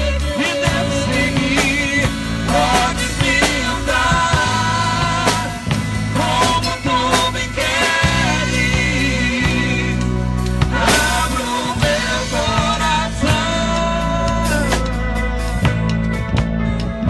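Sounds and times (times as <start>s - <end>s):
drum kit beat: 0.0s - 17.0s
sustained bass line: 0.0s - 17.0s.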